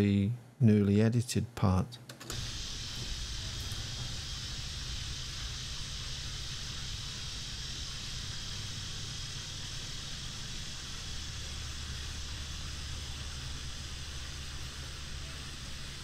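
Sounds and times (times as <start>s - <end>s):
high-pitched hiss: 2.3s - 16.0s.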